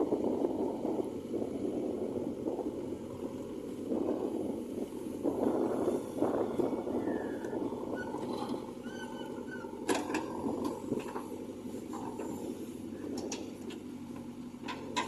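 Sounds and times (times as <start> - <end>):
backhoe diesel engine running: 0.0 - 15.0.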